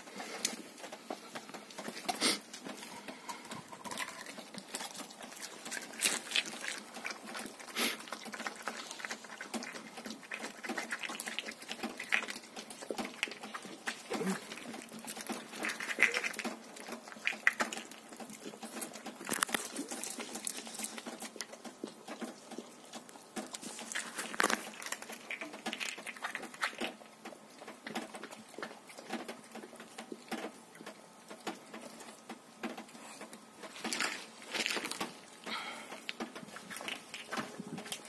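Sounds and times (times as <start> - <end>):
dog chewing and smacking: 0.0 - 38.0.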